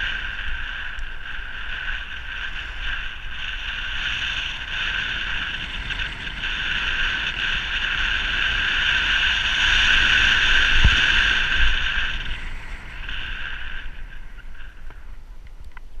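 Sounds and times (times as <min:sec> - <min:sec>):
low road rumble: 0:00.0 - 0:16.0
wind on microphone: 0:00.0 - 0:16.0.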